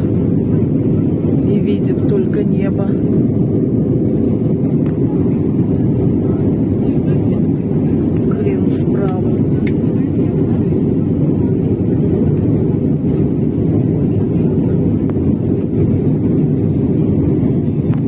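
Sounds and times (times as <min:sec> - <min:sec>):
jet cabin engine and airflow noise: 0:00.0 - 0:18.0.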